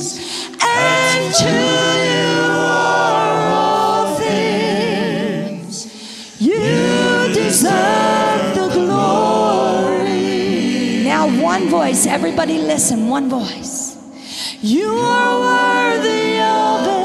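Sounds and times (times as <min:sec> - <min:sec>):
group singing with vibrato: 0:00.0 - 0:17.0.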